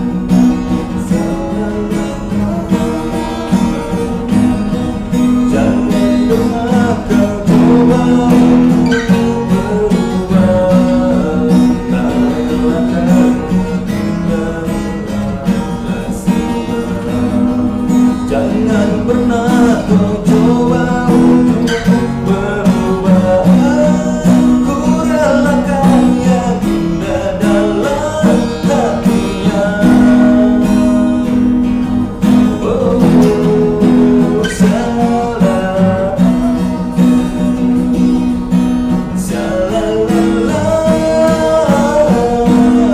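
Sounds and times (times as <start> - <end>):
man singing: 0.0 - 42.9
strummed acoustic guitar: 0.0 - 42.9.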